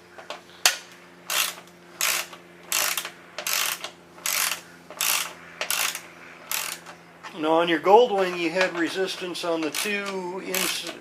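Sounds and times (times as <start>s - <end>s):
steady low hum: 0.0s - 11.0s
ratchet wrench ratcheting: 0.6s - 6.9s, 8.2s - 11.0s.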